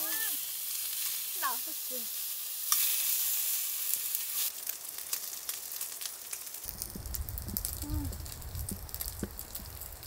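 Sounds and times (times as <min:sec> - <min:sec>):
fat crackling and popping: 0:00.0 - 0:10.0
meat sizzling in a frying pan: 0:00.0 - 0:10.0.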